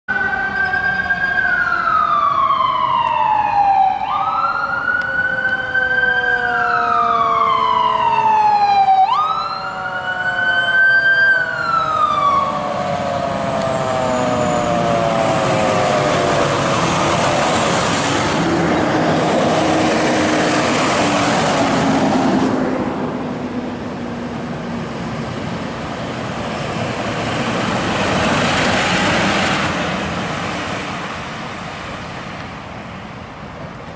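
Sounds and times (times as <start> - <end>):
emergency siren wailing: 0.1 - 31.4
road noise of passing vehicles: 0.1 - 33.9.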